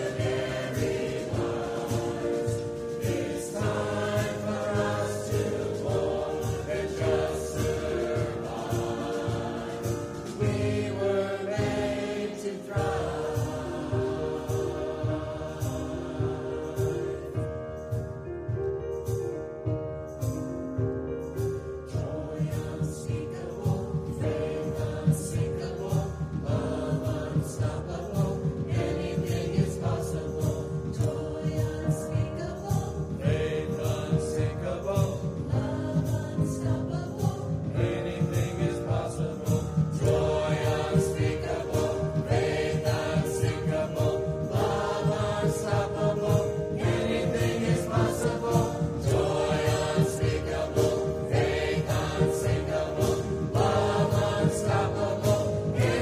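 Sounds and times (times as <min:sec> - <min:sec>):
mixed choir singing: 0:00.0 - 0:18.0, 0:21.8 - 0:56.0.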